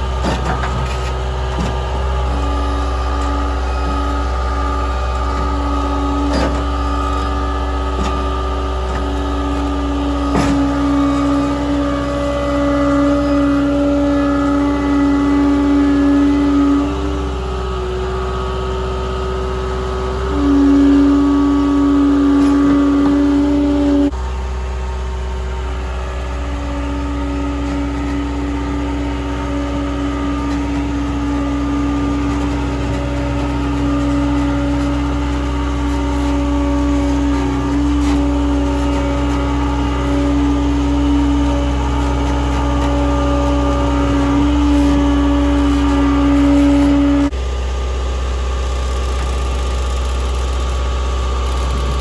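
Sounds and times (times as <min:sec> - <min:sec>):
heavy equipment engine running: 0:00.0 - 0:52.0
strong droning tone: 0:00.0 - 0:52.0.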